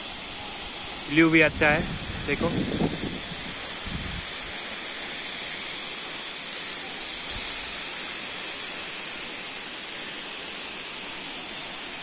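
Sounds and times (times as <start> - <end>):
waterfall hissing: 0.0 - 12.0.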